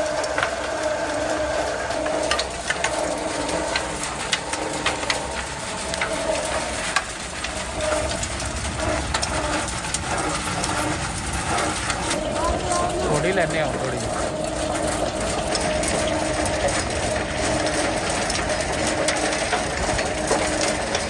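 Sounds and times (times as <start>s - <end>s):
machinery humming: 0.0s - 21.0s
sharp clicks and crackles: 0.0s - 21.0s.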